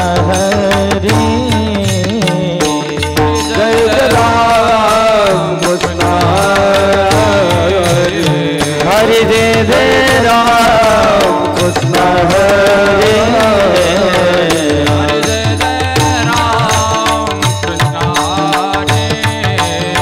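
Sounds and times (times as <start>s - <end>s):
hand drums playing rhythm: 0.0s - 20.0s
voices singing devotional music: 0.0s - 20.0s.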